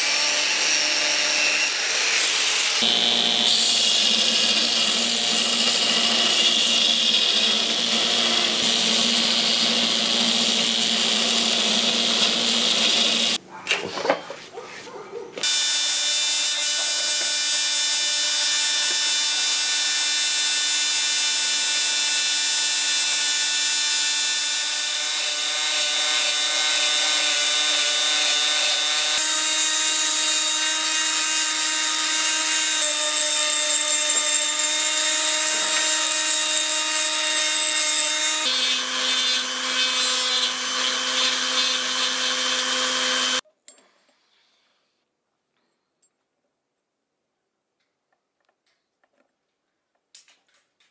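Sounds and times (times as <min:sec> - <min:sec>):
rotary tool grinding metal: 0:00.0 - 0:13.4, 0:15.4 - 0:43.4.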